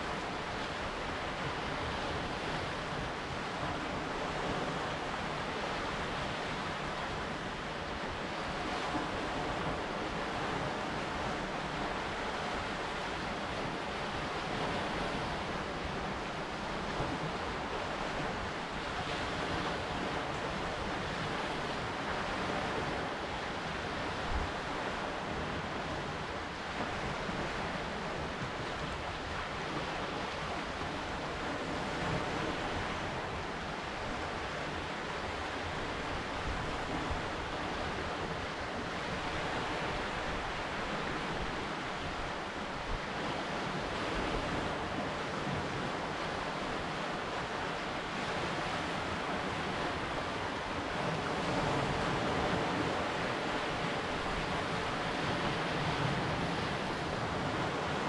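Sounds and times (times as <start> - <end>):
waves washing on rocky shore: 0.0 - 58.0
wind on microphone: 0.0 - 58.0.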